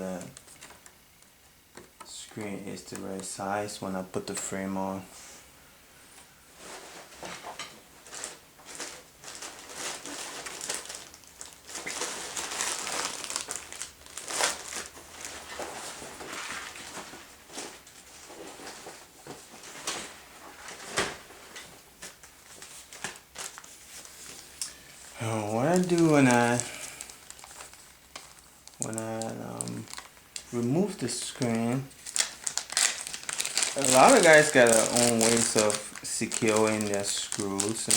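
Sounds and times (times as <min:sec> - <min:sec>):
crinkling and rustling: 0:00.0 - 0:03.4, 0:06.2 - 0:37.9.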